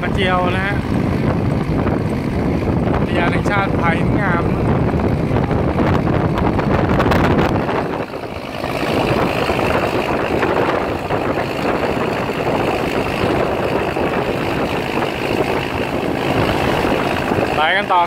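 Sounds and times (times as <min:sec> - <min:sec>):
rushing air: 0:00.0 - 0:18.0.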